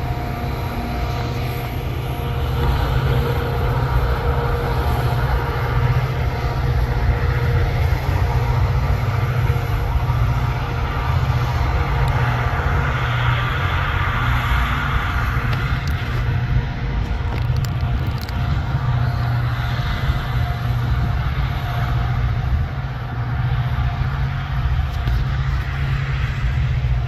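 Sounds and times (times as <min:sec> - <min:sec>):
diesel locomotive rumbling: 0:00.0 - 0:27.0.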